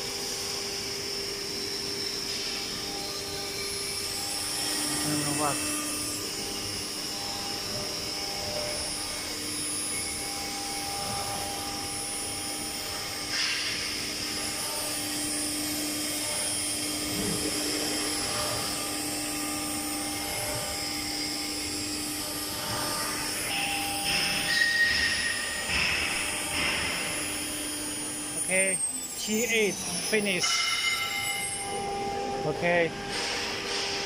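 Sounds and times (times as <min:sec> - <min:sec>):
router spindle whining: 0:00.0 - 0:33.1.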